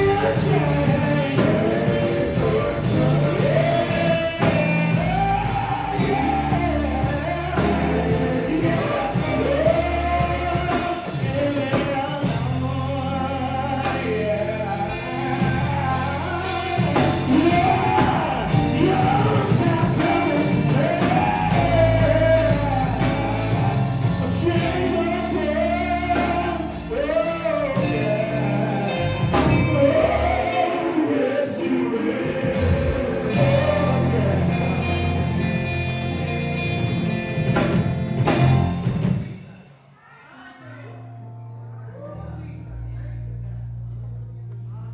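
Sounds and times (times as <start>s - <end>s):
male vocal group singing gospel: 0.0s - 39.2s
electric bass: 0.0s - 39.3s, 41.0s - 44.9s
electric guitar: 0.0s - 39.4s
keyboard: 0.0s - 39.5s
drums: 0.0s - 39.9s.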